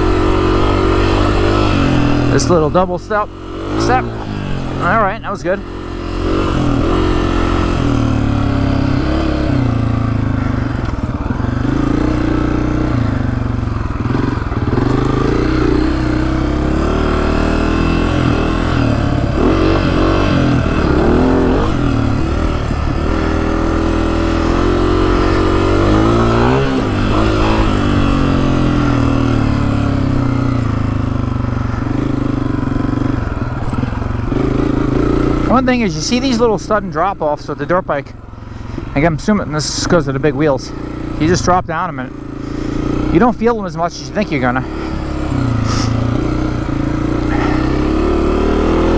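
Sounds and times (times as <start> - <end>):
dirt bike engine running: 0.0 - 48.9.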